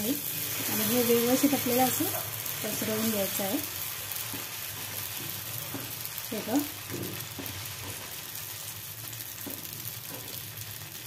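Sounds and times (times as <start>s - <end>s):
batter sizzling on a griddle: 0.0s - 11.0s.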